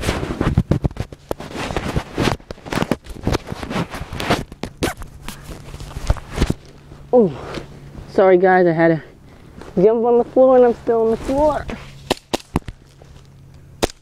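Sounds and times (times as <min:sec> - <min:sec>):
clothing scraping on ground: 0:00.0 - 0:08.1, 0:09.5 - 0:12.1, 0:12.8 - 0:13.4.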